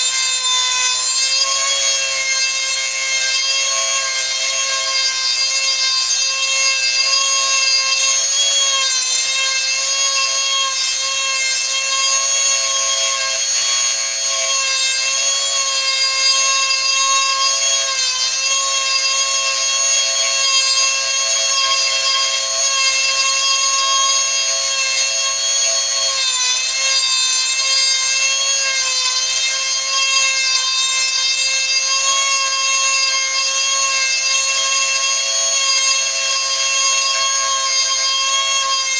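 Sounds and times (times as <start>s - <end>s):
rotary tool carving wood: 0.0s - 38.9s.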